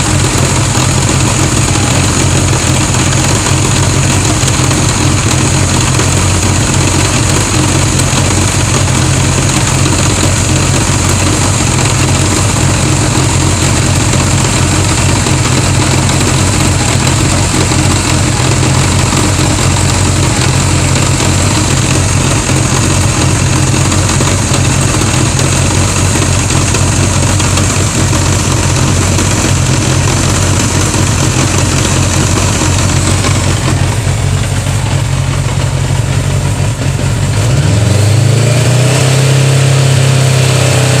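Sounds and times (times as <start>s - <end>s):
motorcycle engine idling: 0.0s - 38.3s.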